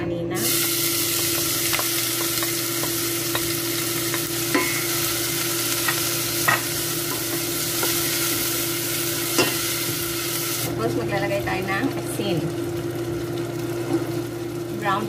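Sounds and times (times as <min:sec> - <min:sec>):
food sizzling in hot oil: 0:00.4 - 0:15.0.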